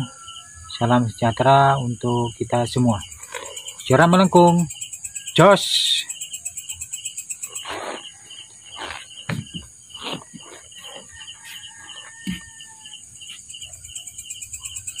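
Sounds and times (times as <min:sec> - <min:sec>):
insect pulsing chirp: 0:00.0 - 0:15.0
insects trilling: 0:00.0 - 0:15.0.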